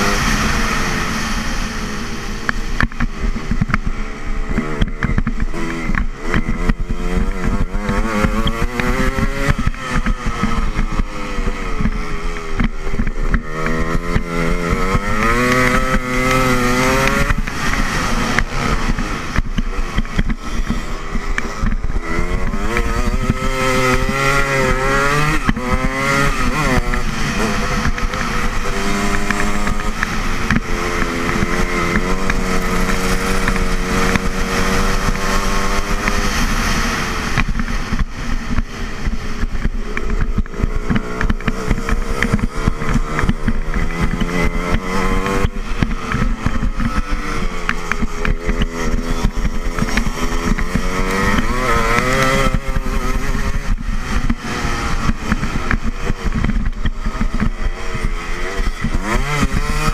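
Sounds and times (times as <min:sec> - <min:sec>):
dirt bike engine revving: 0:00.0 - 0:59.9
wind noise: 0:00.0 - 0:59.9.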